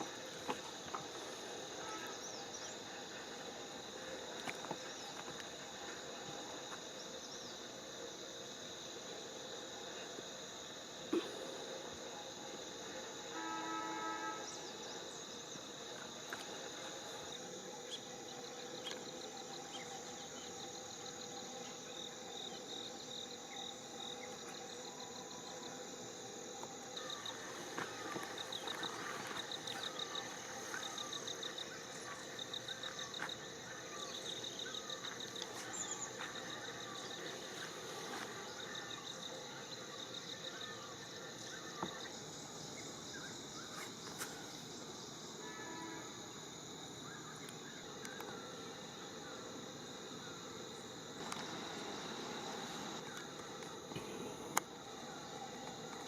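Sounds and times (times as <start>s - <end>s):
insect chorus shrilling: 0.0s - 56.0s.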